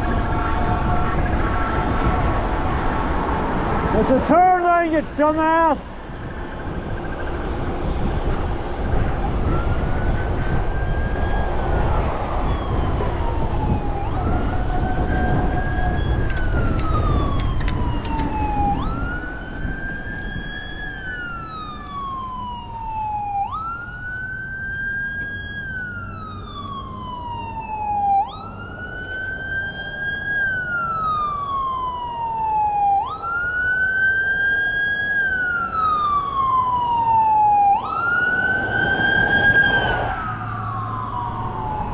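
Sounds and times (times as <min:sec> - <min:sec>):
car road noise: 0:00.0 - 0:41.9
emergency vehicle siren wailing: 0:00.0 - 0:41.9.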